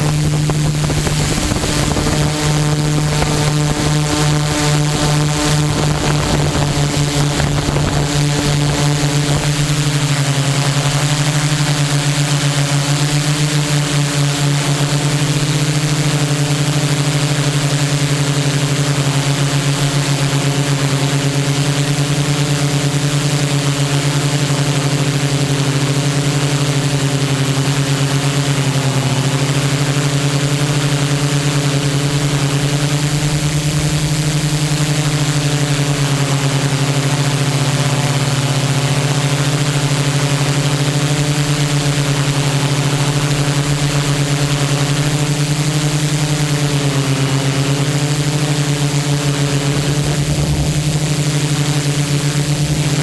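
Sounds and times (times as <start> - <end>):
quadcopter motors droning: 0.0 - 53.0.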